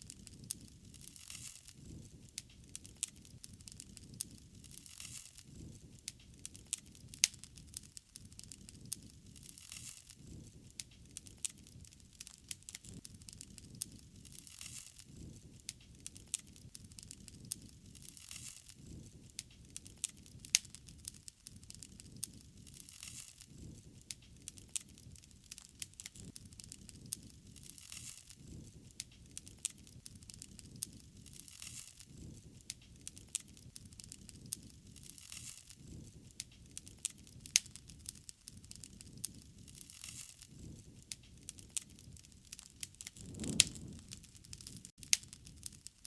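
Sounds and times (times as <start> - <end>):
low rumble of flames: 0.0 - 27.8, 28.4 - 35.2, 35.8 - 45.9
wood fire crackling and popping: 0.0 - 46.0.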